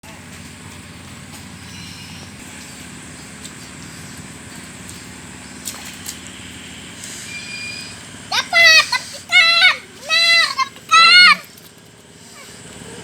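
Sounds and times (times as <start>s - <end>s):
motor running at low pitch: 0.0s - 13.0s.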